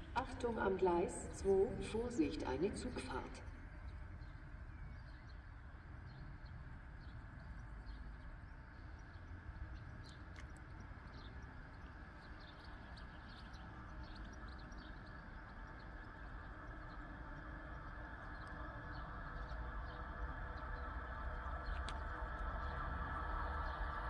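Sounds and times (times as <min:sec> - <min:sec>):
steady low rumble: 0:00.0 - 0:24.0
small birds chirping: 0:02.1 - 0:24.0.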